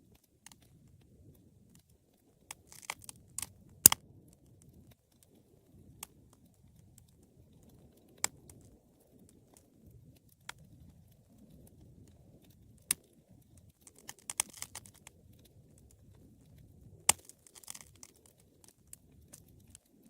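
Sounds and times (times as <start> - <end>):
wood fire crackling and popping: 0.0 - 20.0
fire flames rumbling: 0.1 - 20.0.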